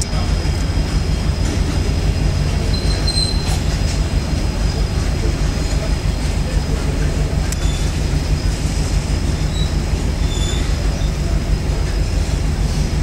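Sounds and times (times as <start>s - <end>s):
train wheels rumbling on track: 0.0s - 13.0s
faint wheel squeals: 1.4s - 13.0s.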